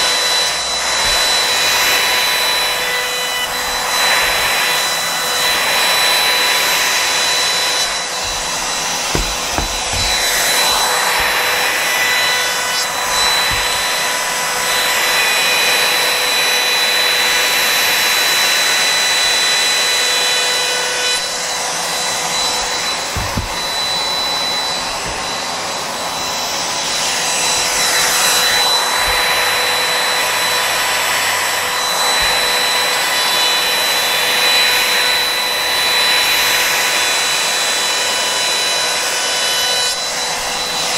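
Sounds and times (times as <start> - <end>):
dust extractor drawing air: 0.0 - 40.9
router whining and cutting: 0.0 - 40.9.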